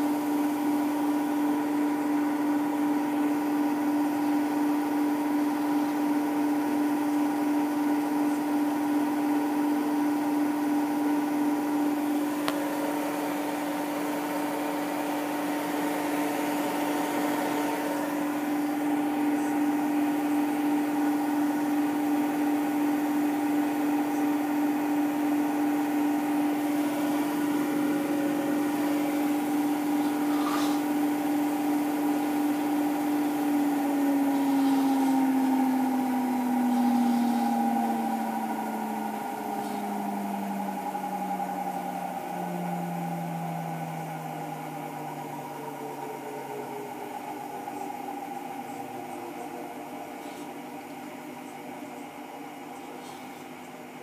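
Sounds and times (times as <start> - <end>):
washing machine motor whine: 0.0 - 54.0.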